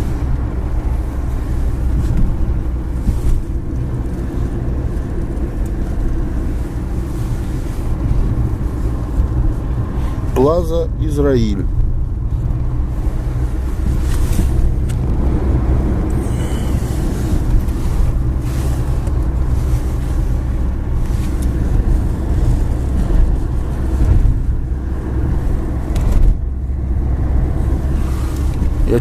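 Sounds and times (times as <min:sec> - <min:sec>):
car interior road rumble: 0:00.0 - 0:29.0.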